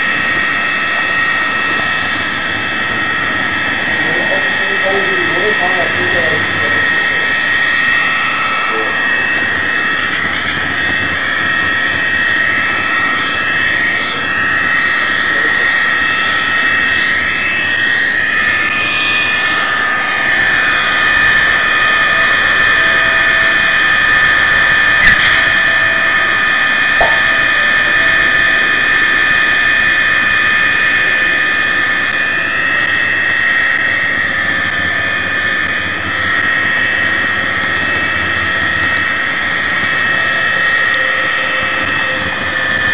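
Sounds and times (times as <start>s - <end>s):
simulated diesel engine drone: 0.0s - 42.9s.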